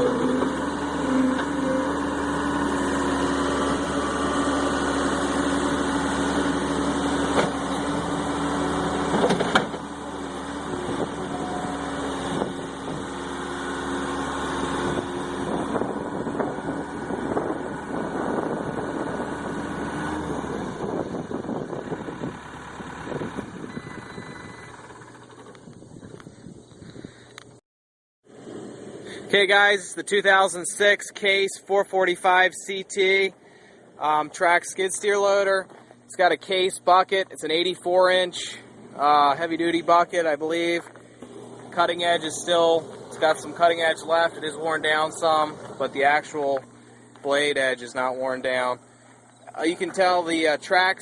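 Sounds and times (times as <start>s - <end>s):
diesel engine running: 0.0s - 27.6s, 28.3s - 51.0s.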